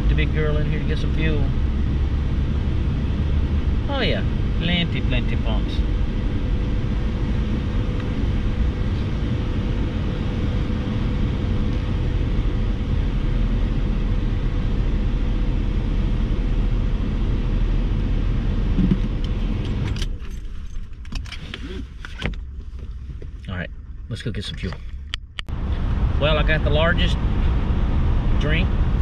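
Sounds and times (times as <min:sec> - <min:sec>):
air conditioning blowing: 0:00.0 - 0:29.0
car engine running: 0:00.0 - 0:29.0.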